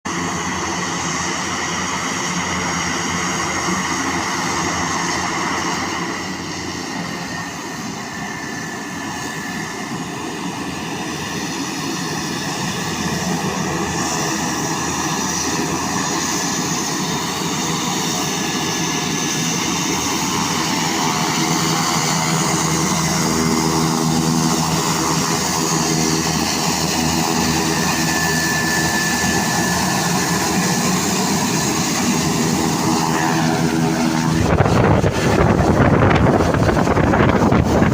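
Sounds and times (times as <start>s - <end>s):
airplane engines droning: 0.1s - 37.9s.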